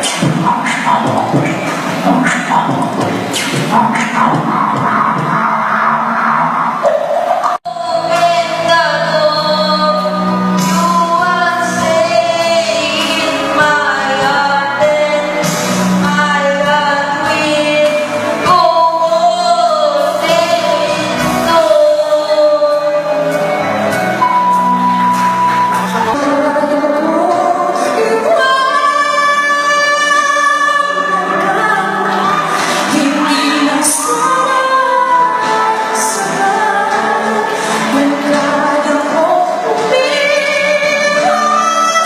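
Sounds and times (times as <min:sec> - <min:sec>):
backing music: 0:00.0 - 0:42.0
person singing: 0:00.0 - 0:42.0.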